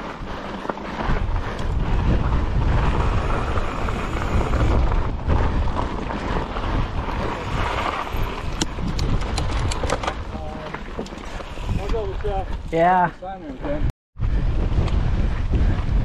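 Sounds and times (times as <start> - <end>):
bike tyres rolling on rocky trail: 0.0 - 16.0
wind buffeting microphone: 0.0 - 16.0.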